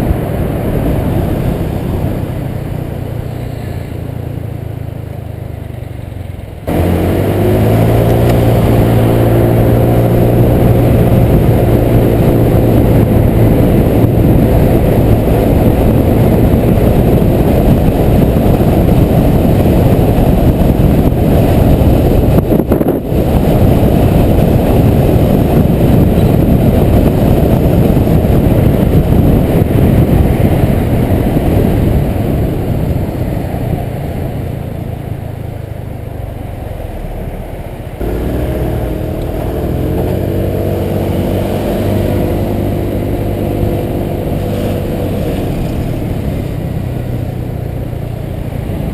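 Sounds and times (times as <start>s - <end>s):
wind rush on microphone: 0.0s - 4.8s, 6.5s - 48.9s
scooter engine pulling away: 0.0s - 48.9s.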